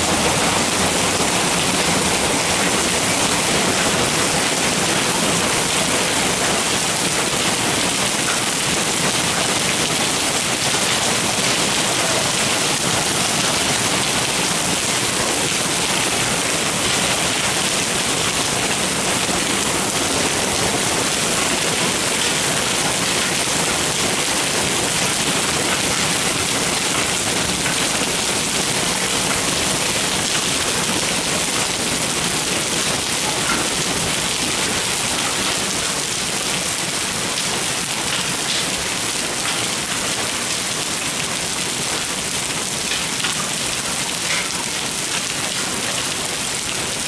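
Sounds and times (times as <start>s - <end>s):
hail on gravel and stone: 0.0s - 47.0s.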